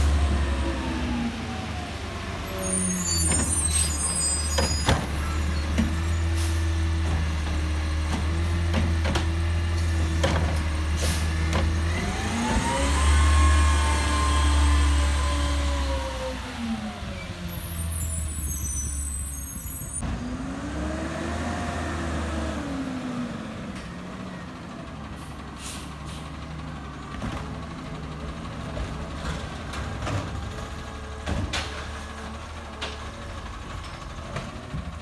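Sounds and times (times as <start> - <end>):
truck engine revving and idling: 0.0 - 18.6, 19.3 - 35.0.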